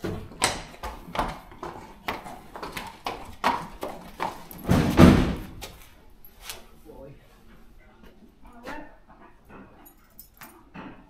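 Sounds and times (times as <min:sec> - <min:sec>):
hooves clopping on concrete: 0:00.0 - 0:06.7, 0:07.4 - 0:11.0.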